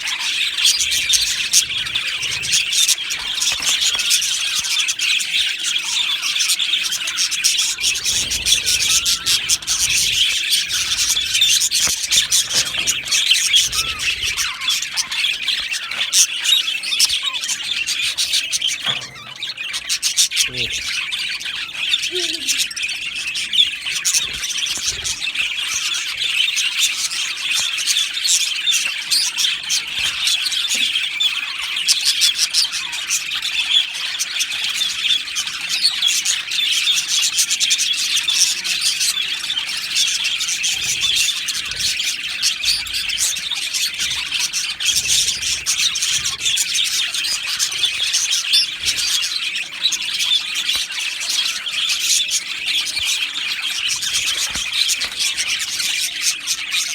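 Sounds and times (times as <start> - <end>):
budgerigars chirping and squawking: 0.0 - 56.9.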